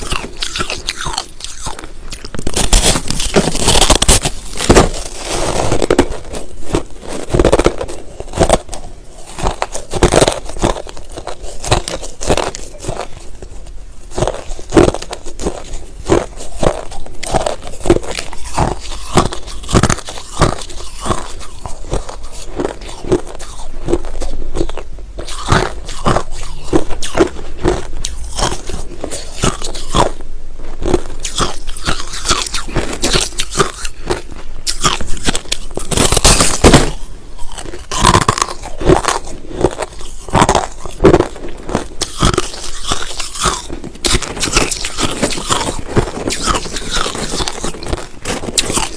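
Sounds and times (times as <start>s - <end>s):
crunchy ice chewing: 0.0s - 48.9s.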